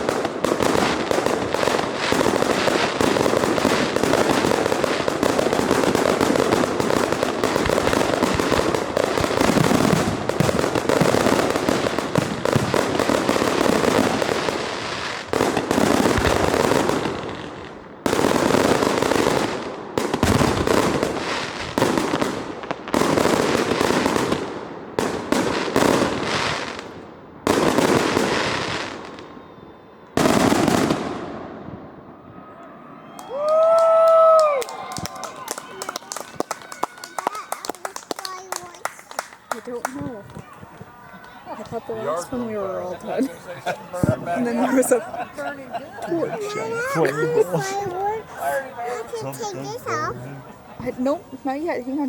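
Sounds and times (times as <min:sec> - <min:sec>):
fireworks bangs and crackle: 0:00.0 - 0:52.0.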